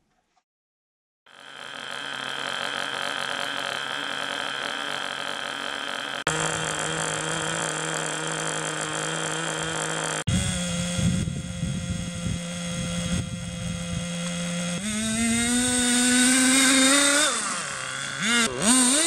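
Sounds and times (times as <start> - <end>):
small nitro engine idling: 1.3 - 19.0.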